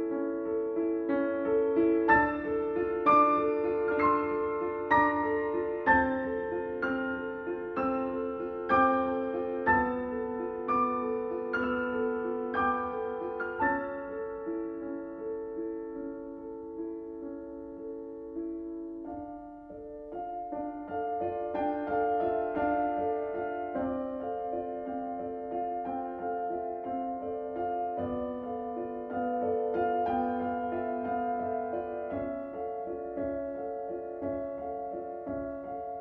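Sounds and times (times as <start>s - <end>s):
slow piano music: 0.0s - 36.0s.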